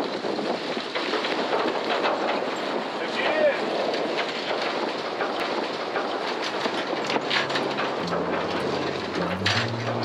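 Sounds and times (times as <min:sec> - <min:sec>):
wind on microphone: 0:00.0 - 0:02.0, 0:03.6 - 0:10.0
water rushing along hull: 0:00.5 - 0:10.0.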